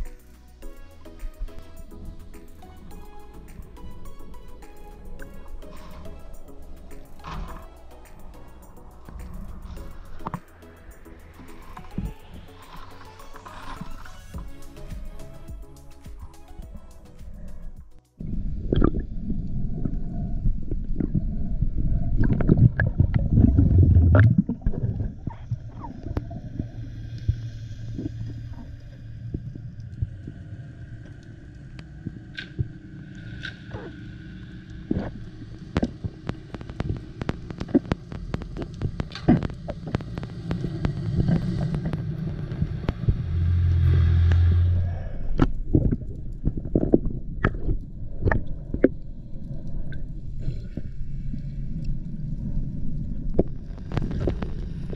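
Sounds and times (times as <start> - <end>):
underwater low rumble: 0.0 - 15.6, 16.2 - 54.9
low hum: 0.0 - 54.9
underwater clicks and crackles: 1.2 - 15.5, 16.2 - 54.9.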